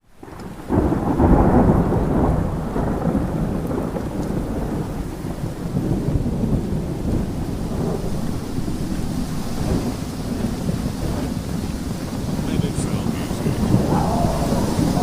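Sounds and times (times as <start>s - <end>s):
windstorm rumble: 0.1s - 15.0s.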